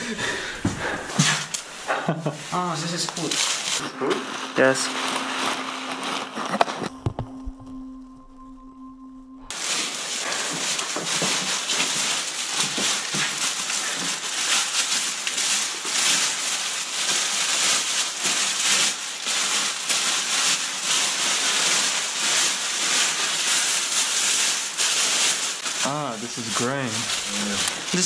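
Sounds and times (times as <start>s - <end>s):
rustling and crinkling: 0.0s - 7.7s, 9.5s - 28.0s.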